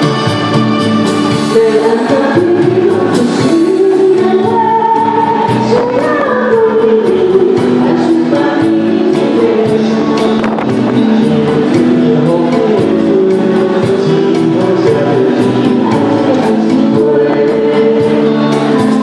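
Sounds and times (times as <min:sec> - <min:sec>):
instrumental backing music: 0:00.0 - 0:19.0
person singing: 0:00.0 - 0:19.0.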